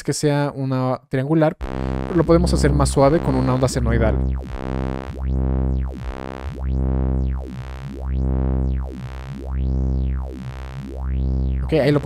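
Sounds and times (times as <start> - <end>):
sustained phased synthesizer note: 1.6 - 12.0.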